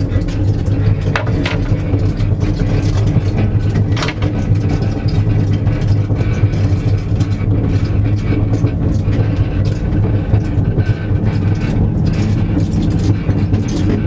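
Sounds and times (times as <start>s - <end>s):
cart rolling on paved road: 0.0s - 14.0s
rattling and knocks: 0.0s - 14.0s.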